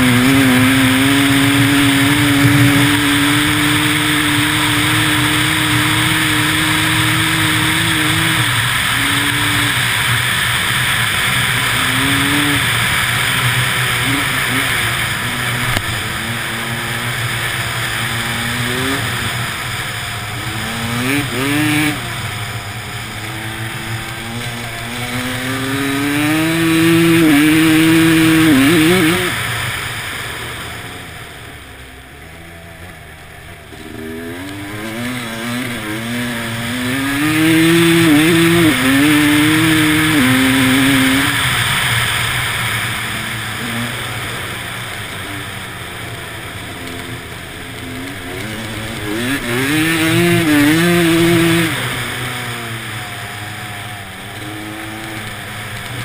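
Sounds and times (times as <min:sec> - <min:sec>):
vehicle engine accelerating hard: 0:00.0 - 0:56.0.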